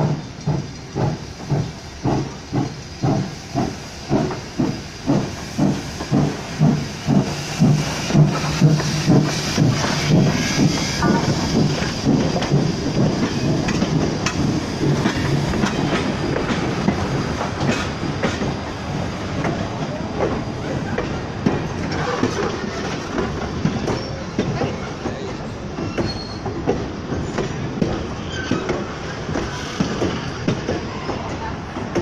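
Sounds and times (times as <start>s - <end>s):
steam train rolling past: 0.0s - 32.0s.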